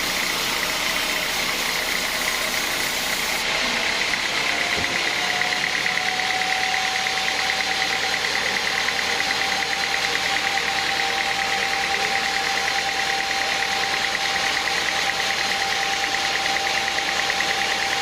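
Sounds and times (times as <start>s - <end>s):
high machine whine: 0.0s - 18.0s
sawmill machinery running: 0.0s - 18.0s.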